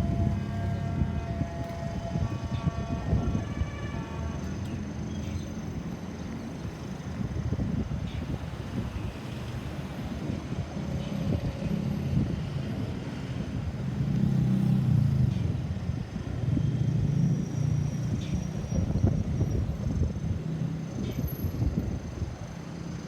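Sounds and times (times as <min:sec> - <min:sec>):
traffic noise: 0:00.0 - 0:23.0.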